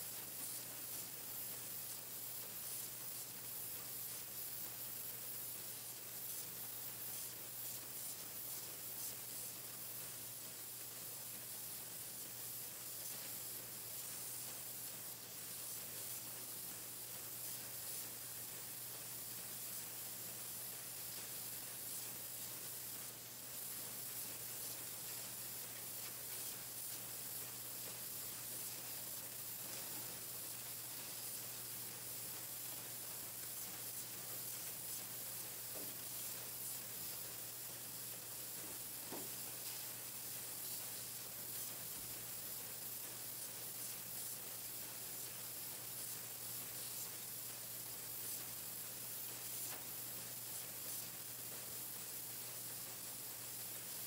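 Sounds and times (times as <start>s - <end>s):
painting machine hiss: 0.0s - 54.0s.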